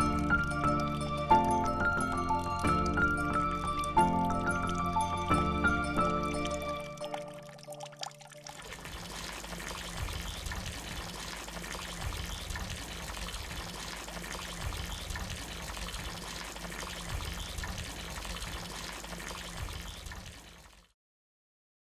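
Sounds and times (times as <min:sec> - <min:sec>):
water pouring from a hose: 0:00.0 - 0:21.0.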